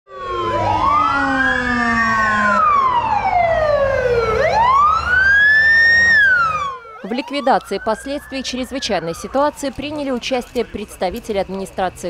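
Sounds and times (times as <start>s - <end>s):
emergency sirens wailing: 0.1s - 12.0s
engines rumbling low: 0.1s - 12.0s.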